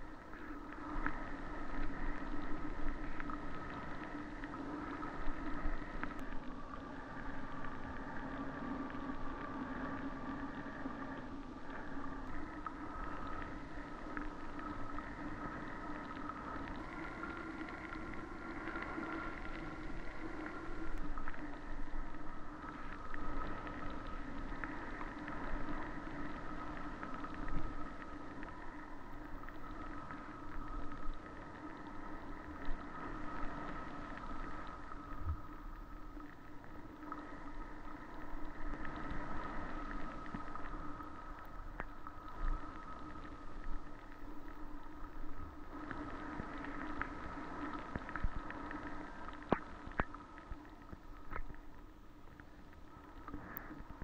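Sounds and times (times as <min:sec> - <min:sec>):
faint drifting tones: 0:00.0 - 0:54.0.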